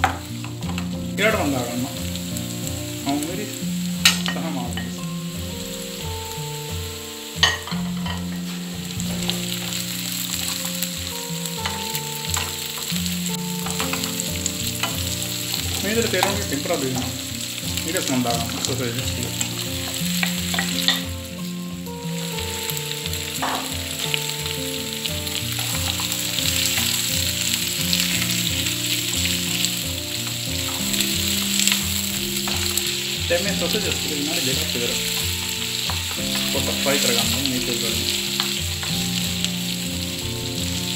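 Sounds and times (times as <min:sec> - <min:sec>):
onions sizzling in hot oil: 0:00.0 - 0:40.9.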